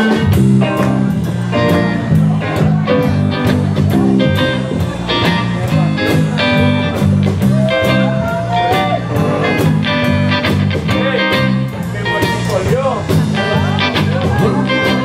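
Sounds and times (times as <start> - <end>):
drum kit: 0.0 - 15.0
electric bass riff: 0.0 - 15.0
electric guitars: 0.0 - 15.0.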